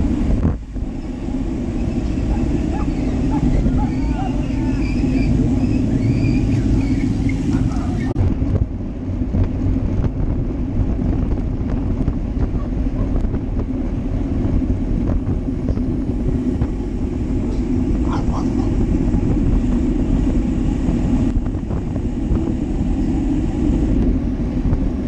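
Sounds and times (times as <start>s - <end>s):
tyres rumbling on asphalt: 0.0s - 25.0s
wind buffeting microphone: 0.0s - 25.0s.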